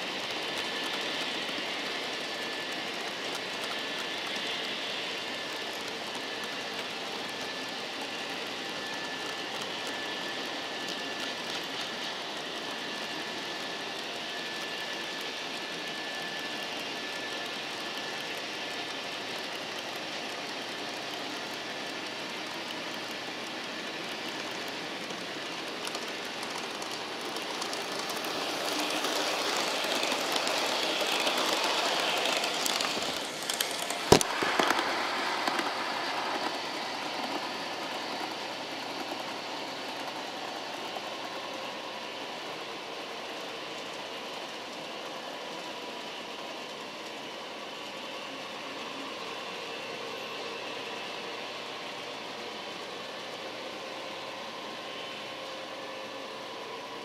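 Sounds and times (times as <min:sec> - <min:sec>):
model train motor and wheel whirr: 0:00.0 - 0:57.0.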